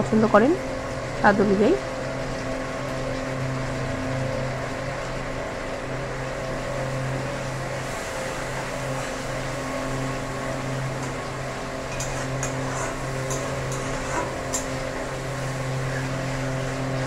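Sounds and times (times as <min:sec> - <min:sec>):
constant hiss: 0:00.0 - 0:17.0
low mechanical hum: 0:00.0 - 0:17.0.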